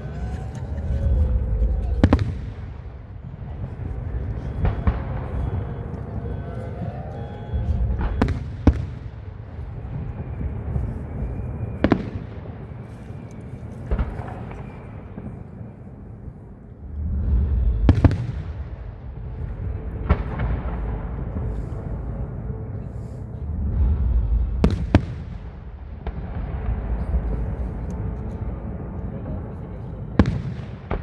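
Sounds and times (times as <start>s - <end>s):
rumble of distant fireworks: 0.0s - 31.0s.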